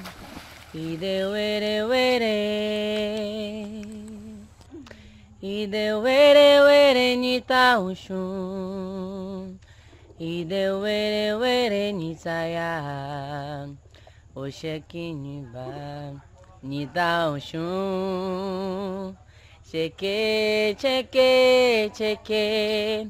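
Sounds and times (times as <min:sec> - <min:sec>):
person singing chant-like melody: 0:00.0 - 0:13.8, 0:14.4 - 0:23.0.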